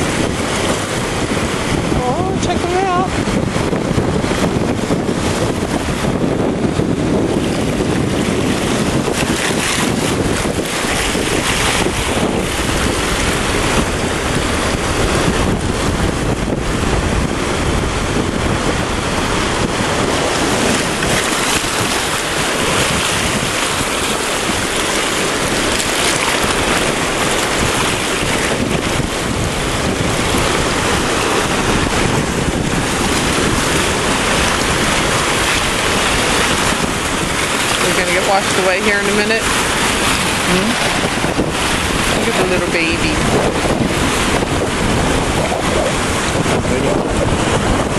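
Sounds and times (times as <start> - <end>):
waves washing over rocks: 0.0 - 47.9
wind buffeting microphone: 0.0 - 47.9.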